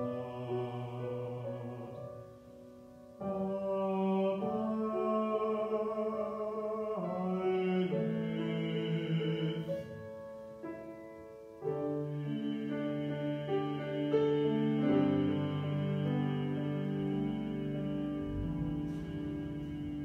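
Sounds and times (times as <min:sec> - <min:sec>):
man singing: 0:00.0 - 0:02.4, 0:03.2 - 0:10.2, 0:11.6 - 0:20.0
piano chords: 0:00.0 - 0:20.0.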